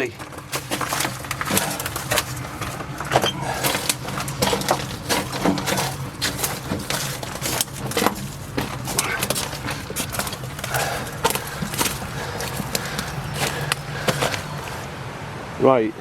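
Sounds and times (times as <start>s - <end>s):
footsteps crunching and scuffing: 0.0s - 14.9s.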